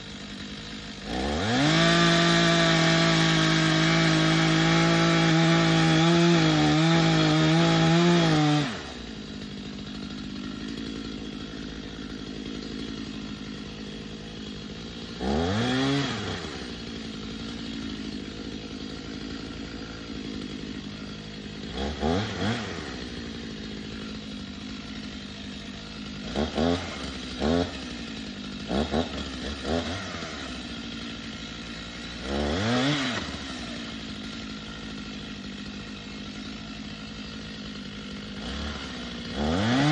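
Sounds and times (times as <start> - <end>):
chainsaw running and idling: 0.0 - 39.9
chainsaw throttle blips: 0.0 - 39.9.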